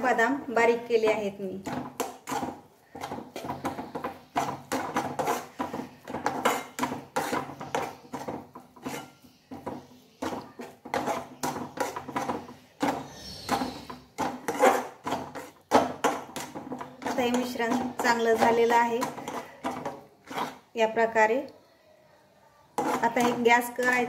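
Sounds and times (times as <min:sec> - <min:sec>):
spatula scraping metal pan: 0:01.6 - 0:20.9, 0:22.7 - 0:24.0.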